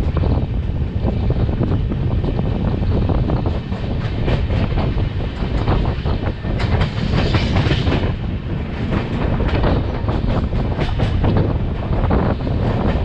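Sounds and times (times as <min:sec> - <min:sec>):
clickety-clack over rail joints: 0:00.0 - 0:13.0
train wheels rumbling on rail: 0:00.0 - 0:13.0.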